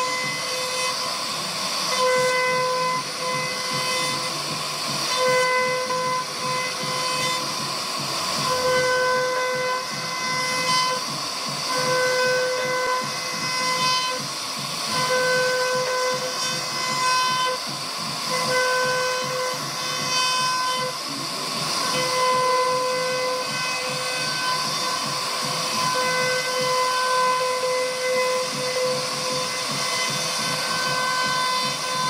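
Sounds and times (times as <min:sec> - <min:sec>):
router spindle cutting wood: 0:00.0 - 0:32.0.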